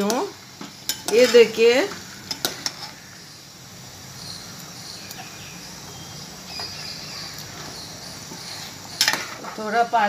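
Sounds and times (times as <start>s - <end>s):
curry simmering hiss: 0.0s - 10.0s.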